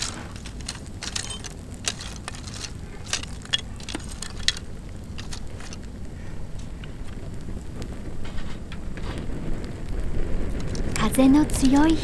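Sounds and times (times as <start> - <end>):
twig fire crackling and popping: 0.0 - 12.0
wind rumble on microphone: 0.0 - 12.0.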